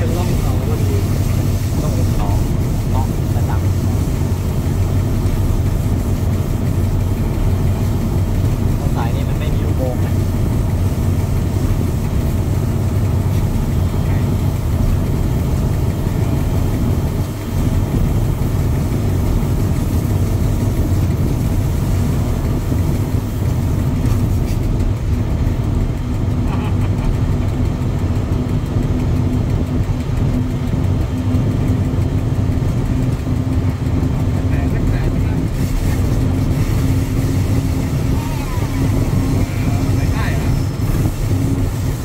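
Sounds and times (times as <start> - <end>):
steady hum: 0.0 - 42.0
train engine and wheels rumbling: 0.0 - 42.0.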